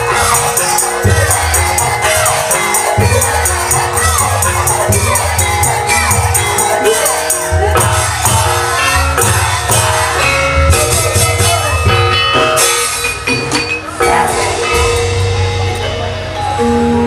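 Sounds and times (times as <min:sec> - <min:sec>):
drum beats: 0:00.0 - 0:17.0
metallophones ringing: 0:00.0 - 0:17.0.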